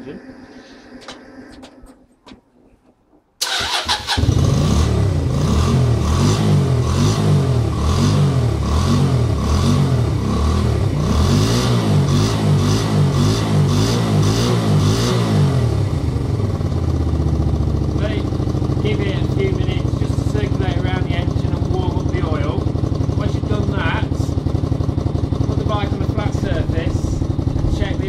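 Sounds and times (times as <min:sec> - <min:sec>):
motorcycle engine revving: 0:03.4 - 0:28.0.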